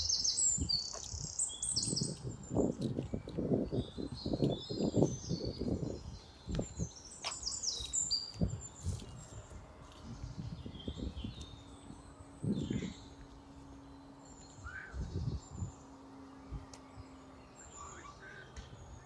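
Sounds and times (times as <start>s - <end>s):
faint steady hum: 0.0s - 19.0s
small birds chirping: 0.0s - 19.0s.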